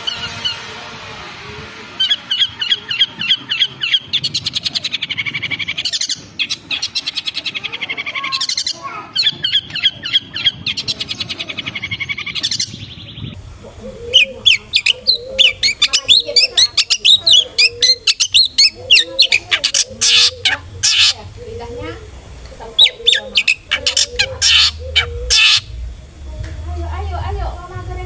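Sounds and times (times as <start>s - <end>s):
shrike chattering and trilling: 1.9s - 25.8s
sharp bird calls: 2.0s - 25.8s.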